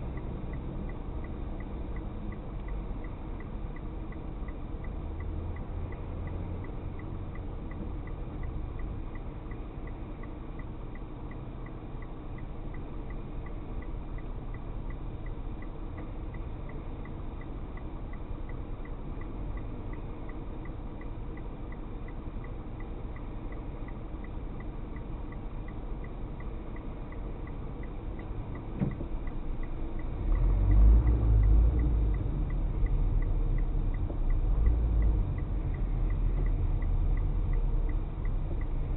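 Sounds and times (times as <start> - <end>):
car engine and road rumble: 0.0 - 38.9
faint regular ticking: 0.0 - 38.9.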